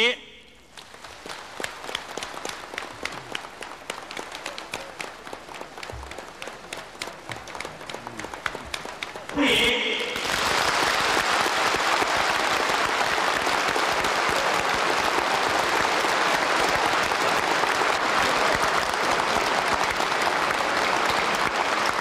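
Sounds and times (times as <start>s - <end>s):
large audience applauding: 0.7s - 22.0s.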